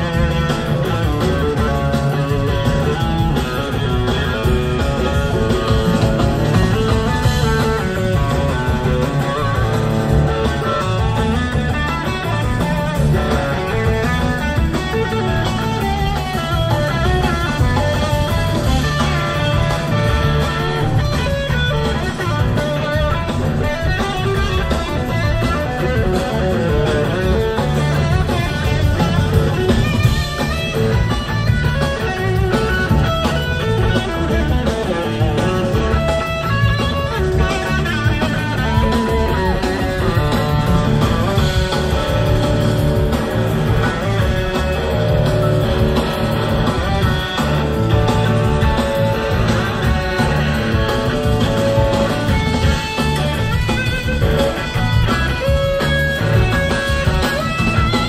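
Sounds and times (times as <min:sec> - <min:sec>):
bass: 0:00.0 - 0:58.0
drums: 0:00.0 - 0:58.0
electric guitar lead: 0:00.0 - 0:58.0
keyboards: 0:00.0 - 0:58.0.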